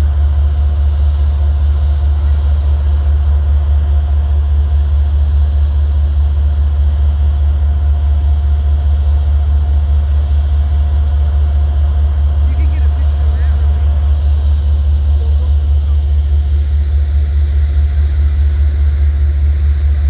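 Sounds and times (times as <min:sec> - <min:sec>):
diesel locomotive engine rumble: 0:00.0 - 0:20.0
faint steady whine: 0:00.0 - 0:20.0.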